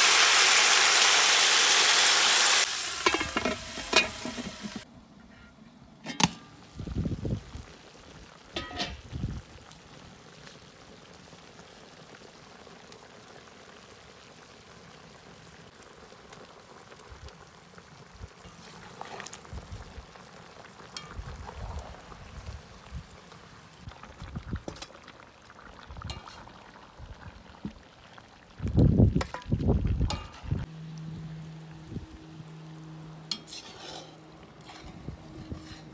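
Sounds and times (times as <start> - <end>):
pot bubbling with low hiss: 0.0 - 5.1, 6.0 - 35.9.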